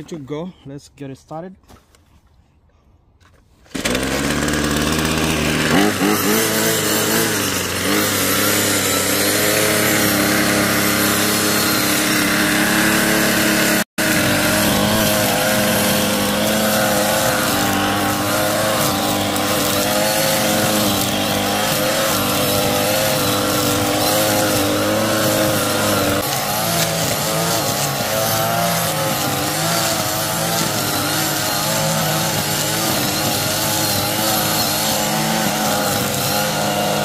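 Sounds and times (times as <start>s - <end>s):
string trimmer engine running: 3.7s - 37.0s
trimmer line cutting grass: 3.7s - 37.0s.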